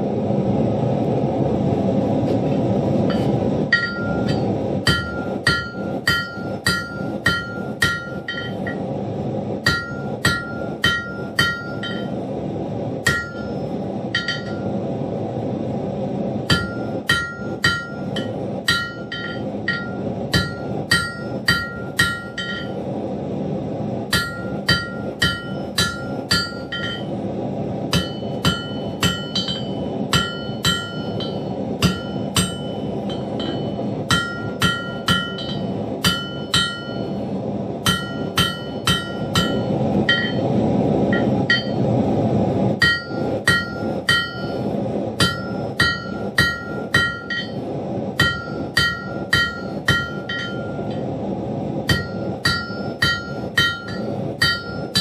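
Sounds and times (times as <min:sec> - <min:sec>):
steady rushing noise: 0:00.0 - 0:55.0
hammer striking iron on anvil: 0:03.1 - 0:08.9, 0:09.6 - 0:12.2, 0:13.0 - 0:14.8, 0:16.4 - 0:22.8, 0:24.1 - 0:27.2, 0:27.9 - 0:37.2, 0:37.8 - 0:41.9, 0:42.8 - 0:51.1, 0:51.8 - 0:55.0.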